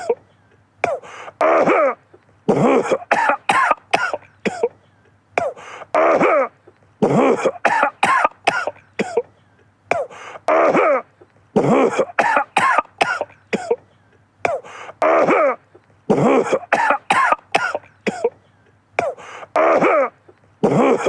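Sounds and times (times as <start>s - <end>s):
man coughing: 0.0s - 21.0s.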